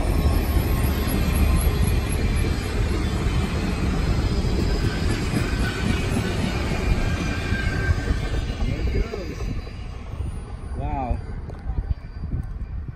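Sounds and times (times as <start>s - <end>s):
high wheel squeal: 0.0s - 12.9s
train wheels rumbling on rails: 0.0s - 12.9s.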